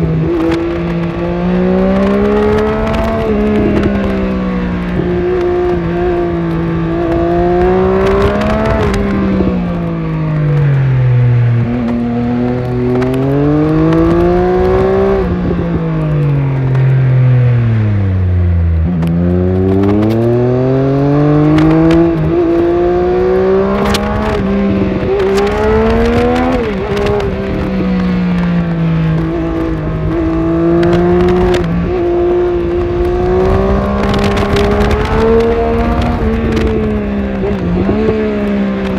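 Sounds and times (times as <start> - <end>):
motorcycle engine while riding: 0.0 - 38.9
wind noise: 0.0 - 38.9.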